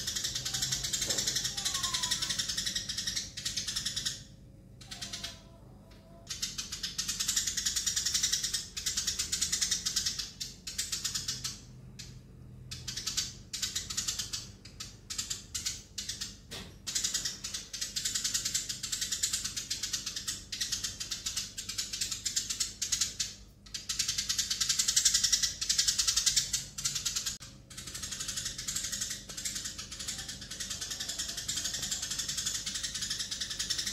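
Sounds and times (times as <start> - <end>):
sparrow chirping: 0.0 - 33.9.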